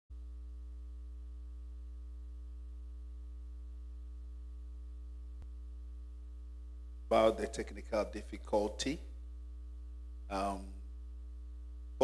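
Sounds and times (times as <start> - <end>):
electrical mains hum: 0.1 - 12.0.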